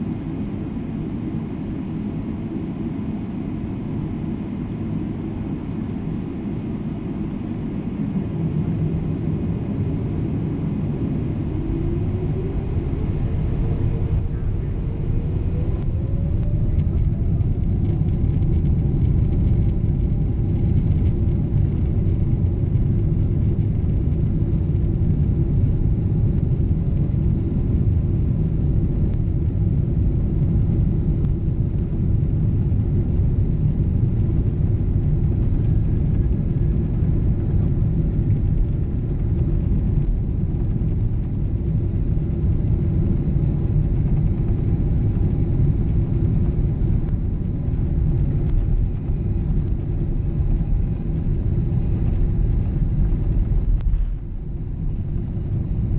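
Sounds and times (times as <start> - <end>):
faint steady hums: 0.0 - 55.9
jet engine rumble in cabin: 0.0 - 55.9.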